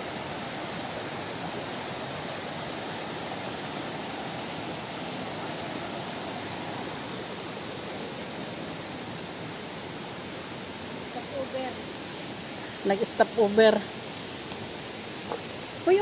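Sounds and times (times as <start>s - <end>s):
mountain stream and waterfall rushing: 0.0s - 16.0s.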